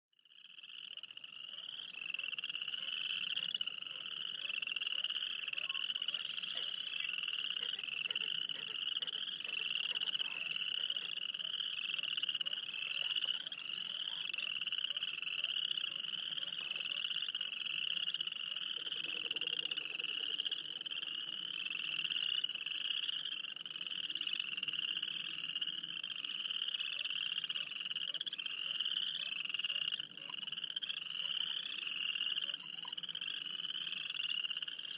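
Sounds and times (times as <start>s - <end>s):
chorus of frogs trilling: 0.3s - 34.9s.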